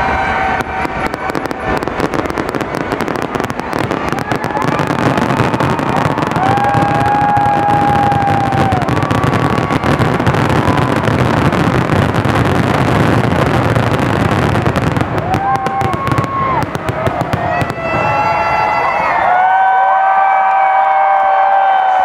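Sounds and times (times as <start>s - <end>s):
fireworks booming: 0.0s - 18.9s
fireworks crackling: 0.0s - 19.8s
crowd cheering: 0.0s - 22.0s.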